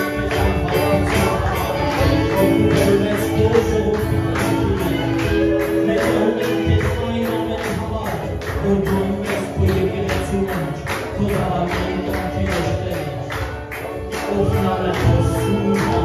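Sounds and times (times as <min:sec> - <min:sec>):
electronic keyboard worship music: 0:00.0 - 0:16.0.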